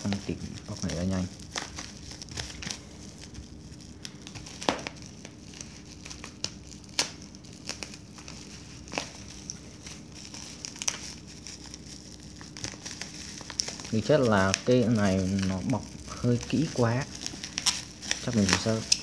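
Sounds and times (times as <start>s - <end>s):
bubble wrap crinkling and snapping: 0.0s - 19.0s.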